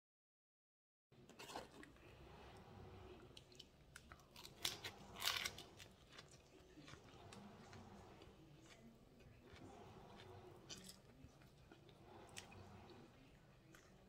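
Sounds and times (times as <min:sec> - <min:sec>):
crunchy chewing of lettuce: 0:01.4 - 0:13.1.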